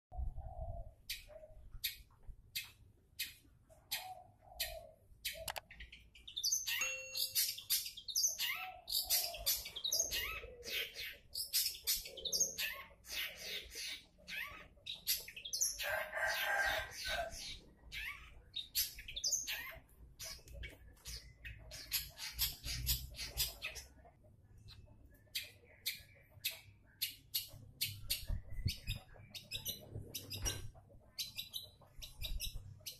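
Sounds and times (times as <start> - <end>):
bird singing scratchy chirps: 0.6 - 32.9.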